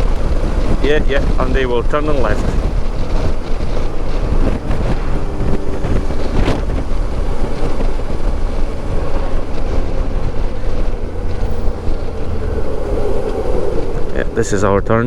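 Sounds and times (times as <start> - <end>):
motorcycle engine running: 0.0 - 14.5
wind buffeting microphone: 0.0 - 15.0.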